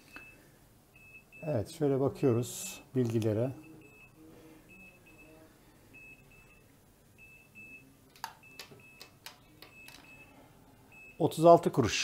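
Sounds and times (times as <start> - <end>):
faint electronic beeps: 0.0 - 11.4.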